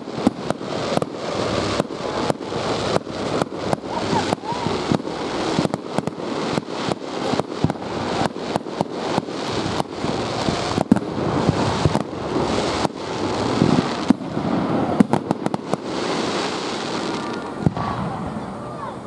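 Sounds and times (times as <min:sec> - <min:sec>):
fireworks bangs and pops: 0:00.0 - 0:19.0
fireworks crackling: 0:00.0 - 0:19.0.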